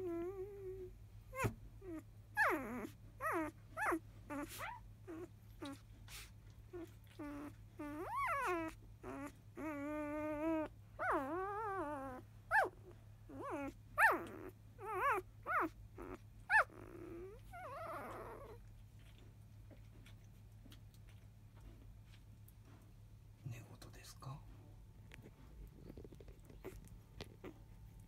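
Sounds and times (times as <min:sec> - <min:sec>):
puppy whimpering and squeaking: 0:00.0 - 0:21.2, 0:25.2 - 0:28.0.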